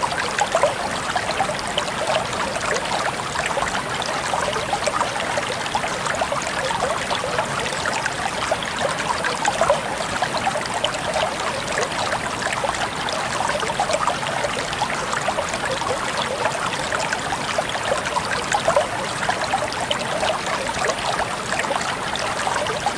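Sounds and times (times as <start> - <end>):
water babbling over stones: 0.0 - 22.9.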